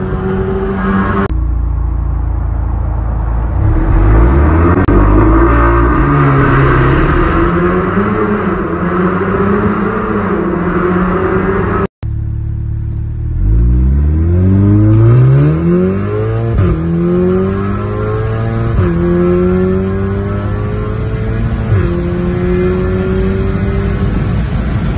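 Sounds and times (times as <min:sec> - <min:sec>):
car engine accelerating with upshifts: 0:00.0 - 0:24.9.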